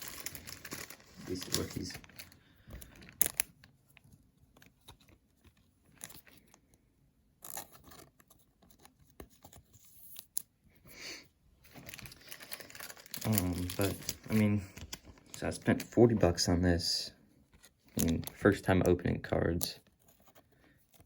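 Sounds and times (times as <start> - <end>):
plastic sleeves rustling: 0.0 - 21.0.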